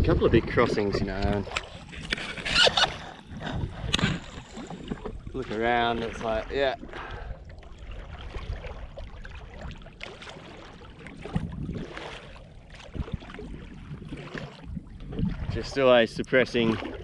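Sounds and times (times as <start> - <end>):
wind rumble on microphone: 0.0 - 10.0, 11.0 - 17.0
water sloshing against hull: 0.0 - 17.0.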